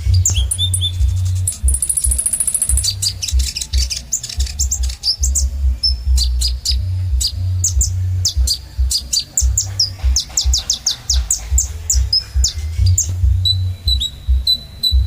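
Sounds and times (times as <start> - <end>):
low rumble: 0.0 - 10.2, 11.4 - 15.0
sunbird singing high chirps: 0.0 - 15.0.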